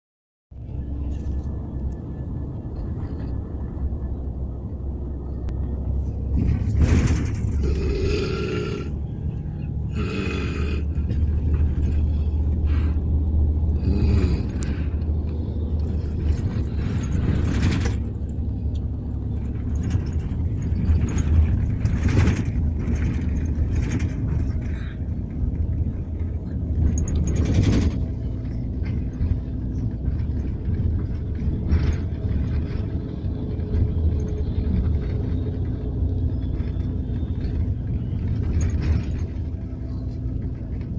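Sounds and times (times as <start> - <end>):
bus rumble: 0.5 - 40.9.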